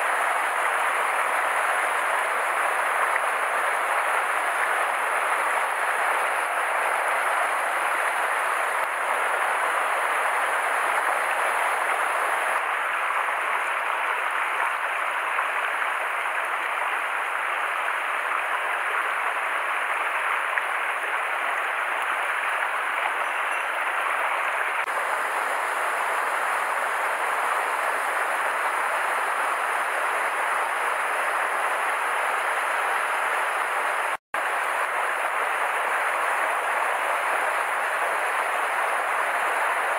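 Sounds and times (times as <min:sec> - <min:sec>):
mountain stream rushing over boulders: 0:00.0 - 0:39.9.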